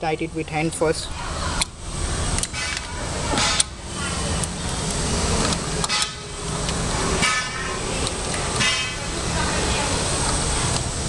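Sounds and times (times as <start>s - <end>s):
traffic: 0.0s - 11.0s
construction work: 1.1s - 11.0s.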